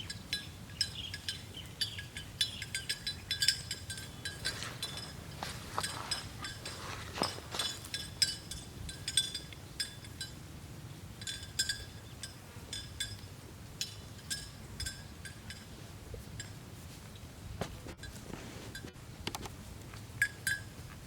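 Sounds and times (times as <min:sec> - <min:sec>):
cattle bells clinking: 0:00.0 - 0:16.6, 0:20.2 - 0:21.0.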